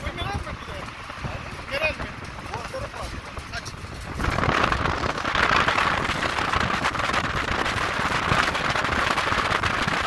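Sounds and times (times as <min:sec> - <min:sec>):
dense crackling rattle: 0:00.0 - 0:10.0
road and engine noise: 0:00.0 - 0:10.0.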